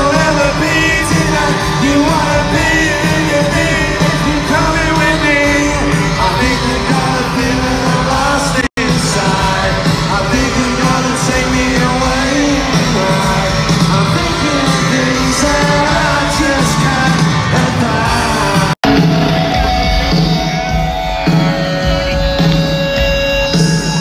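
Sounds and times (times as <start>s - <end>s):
live rock band with singer: 0.0s - 24.0s.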